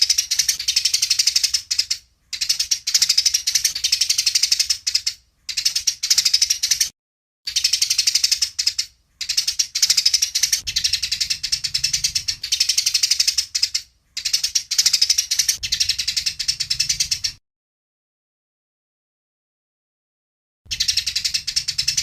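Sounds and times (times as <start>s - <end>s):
sparrow chattering chirps: 0.0s - 6.9s, 7.5s - 17.4s, 20.7s - 22.0s.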